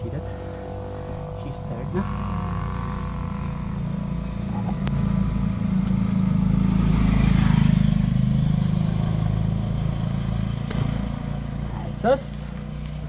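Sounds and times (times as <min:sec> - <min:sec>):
motorcycle engine approaching: 0:00.0 - 0:13.0.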